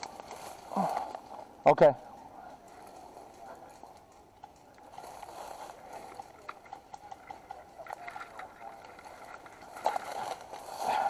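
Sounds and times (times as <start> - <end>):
small crackles: 0.0 - 11.0.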